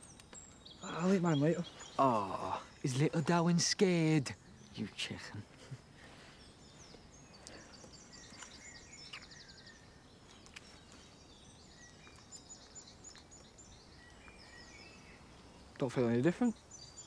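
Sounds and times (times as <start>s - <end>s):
faint birdsong chirps and trill: 0.0s - 17.0s.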